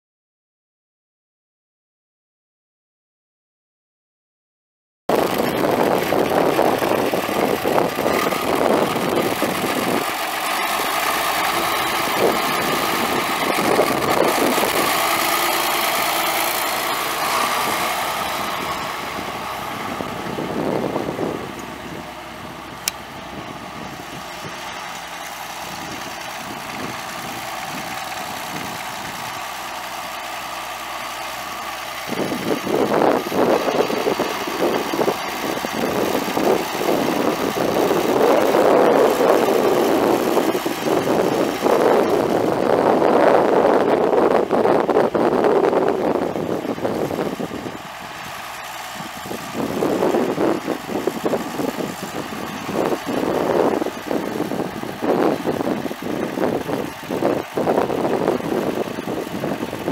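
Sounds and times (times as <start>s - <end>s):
tractor diesel engine idling: 5.1s - 59.9s.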